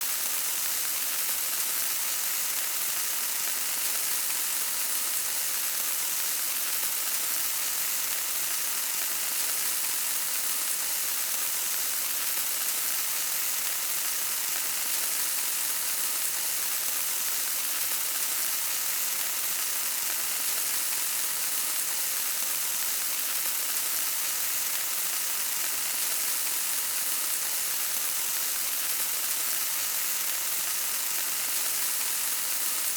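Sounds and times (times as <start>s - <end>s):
oil sizzling in a frying pan: 0.0s - 32.9s.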